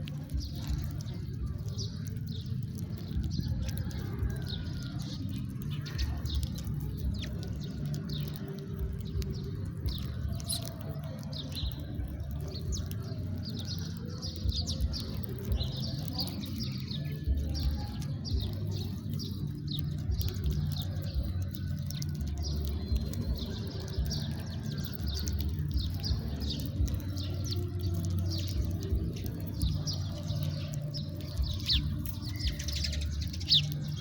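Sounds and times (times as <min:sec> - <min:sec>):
steady low rumble: 0:00.0 - 0:04.2, 0:04.8 - 0:24.1, 0:25.3 - 0:34.0
sparrows chirping: 0:00.0 - 0:34.0.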